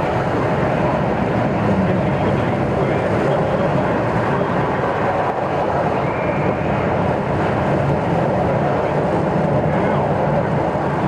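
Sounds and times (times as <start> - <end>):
road noise in cab: 0.0 - 11.0.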